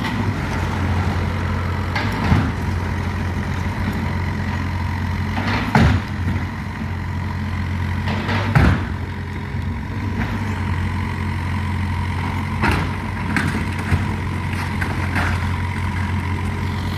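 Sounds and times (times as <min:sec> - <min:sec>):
demolition knocks and crashes: 0:00.0 - 0:16.6
excavator diesel engine running: 0:00.0 - 0:16.9.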